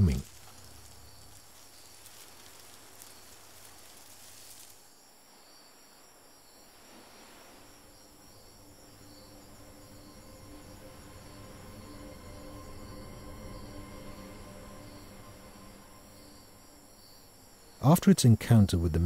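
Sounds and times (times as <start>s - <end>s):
insect chorus chirring: 0.0s - 19.0s.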